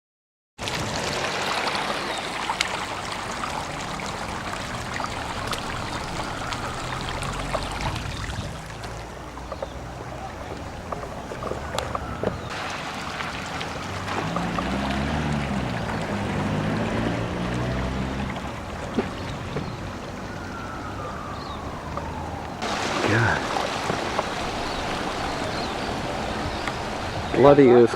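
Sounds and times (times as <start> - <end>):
small splashes and clicks: 0.6 - 27.3
water flowing and trickling: 0.6 - 27.9.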